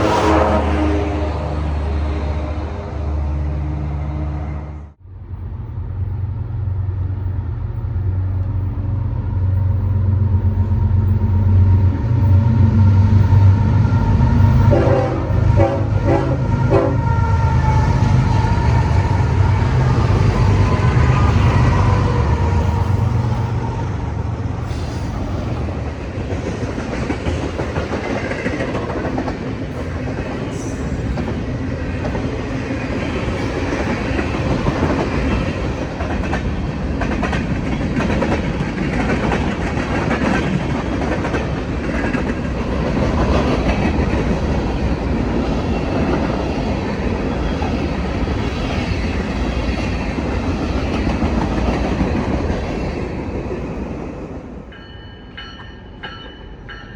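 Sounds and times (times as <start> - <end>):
train rumbling past: 0.0 - 56.9.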